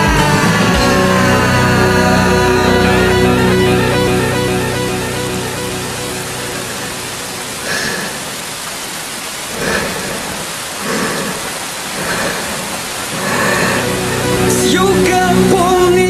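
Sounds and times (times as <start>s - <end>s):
heavy rain rushing: 0.0s - 16.0s.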